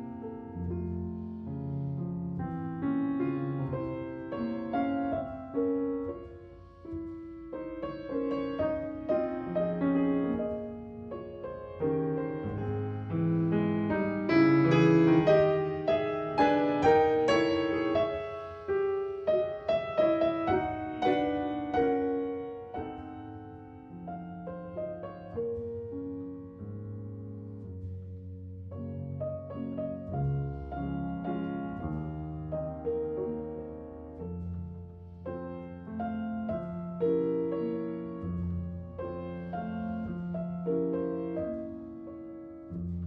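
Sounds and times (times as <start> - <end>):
gentle piano piece: 0.0 - 43.0.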